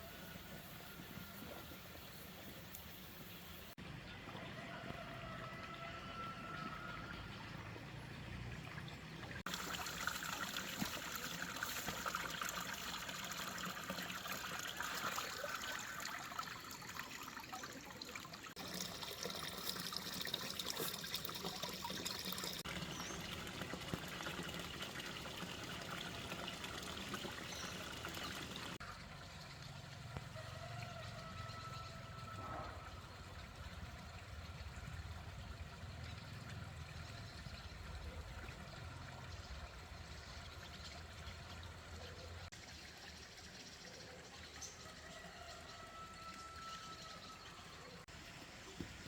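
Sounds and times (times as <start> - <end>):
water trickling and splashing: 0.0 - 49.0.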